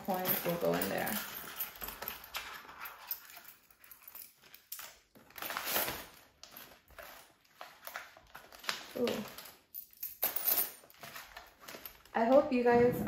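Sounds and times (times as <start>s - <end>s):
crinkling plastic: 0.0s - 9.9s, 10.8s - 13.0s.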